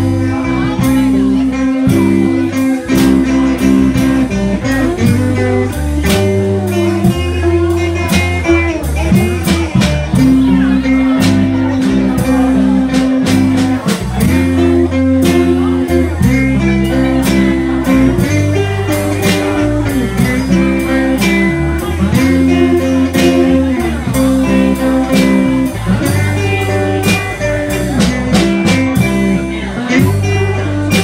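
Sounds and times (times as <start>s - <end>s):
bass guitar: 0.0s - 31.0s
drum kit beat: 0.0s - 31.0s
electric guitars: 0.0s - 31.0s.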